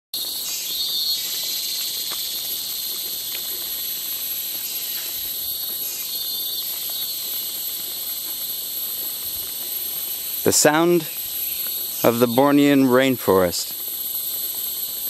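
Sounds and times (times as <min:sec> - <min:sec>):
insects shrilling: 0:00.2 - 0:15.0.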